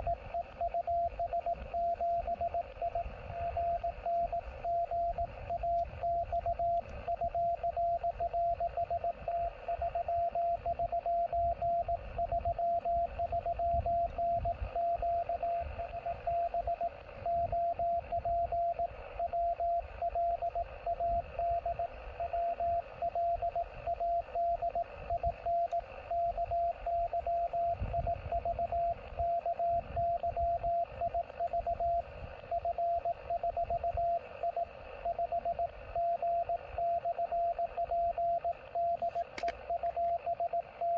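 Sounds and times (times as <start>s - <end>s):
morse code tone: 0.0s - 40.9s
radio band noise hiss: 0.0s - 40.9s.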